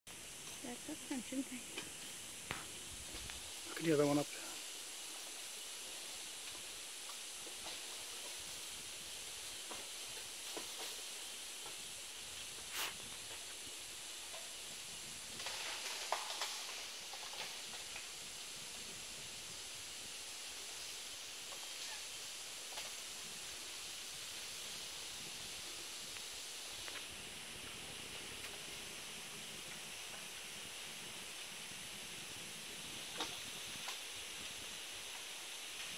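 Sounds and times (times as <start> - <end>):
forest background hiss: 0.1 - 35.9
rustling and crackling: 0.3 - 29.1.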